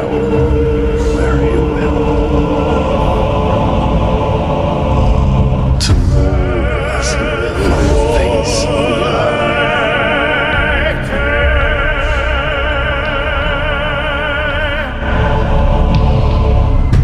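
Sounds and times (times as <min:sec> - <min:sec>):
dark ambient drone music: 0:00.0 - 0:17.0
wordless vocal notes with vibrato: 0:00.0 - 0:17.0.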